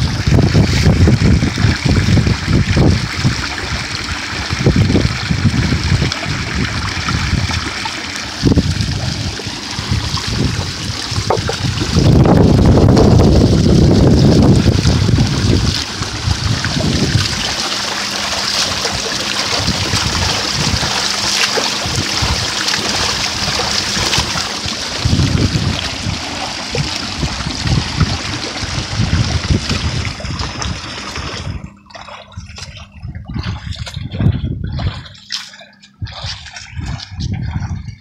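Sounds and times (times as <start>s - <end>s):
water pouring into pool: 0.0s - 32.7s
wind buffeting microphone: 0.0s - 35.3s, 36.0s - 38.0s
swimming strokes splashing: 3.2s - 38.0s.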